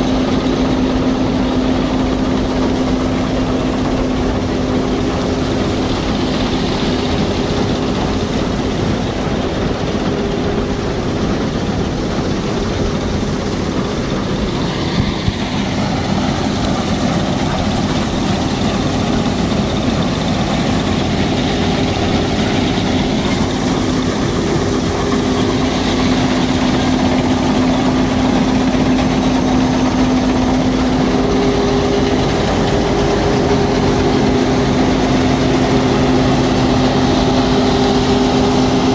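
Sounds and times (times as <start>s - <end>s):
combine harvester diesel engine drone: 0.0s - 38.9s.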